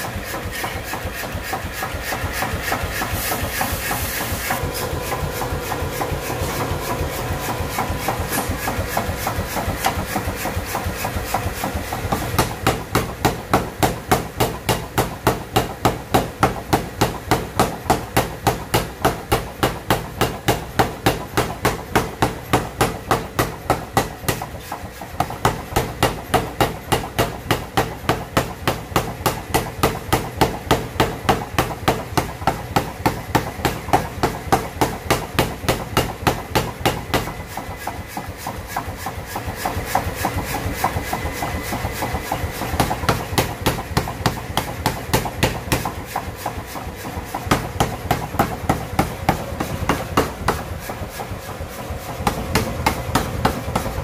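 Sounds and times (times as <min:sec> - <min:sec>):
machine running: 0:00.0 - 0:54.0
power hammer pounding steel: 0:00.0 - 0:54.0.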